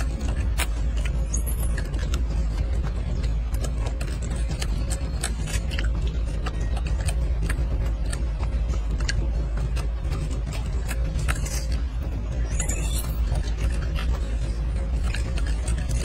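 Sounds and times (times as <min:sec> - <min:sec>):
monkey chewing food: 0:00.0 - 0:16.0
steady low rumble: 0:00.0 - 0:16.0.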